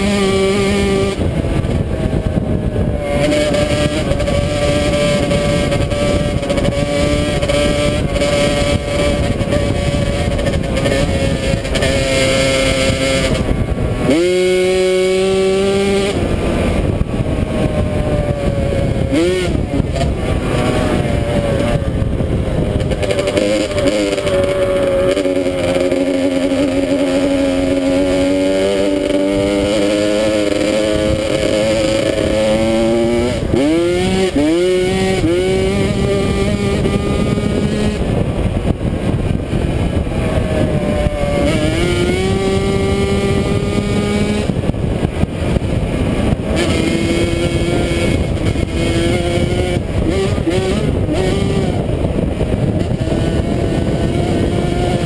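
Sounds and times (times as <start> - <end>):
dirt bike engine revving: 0.0 - 55.0
wind noise hissing: 0.1 - 55.0.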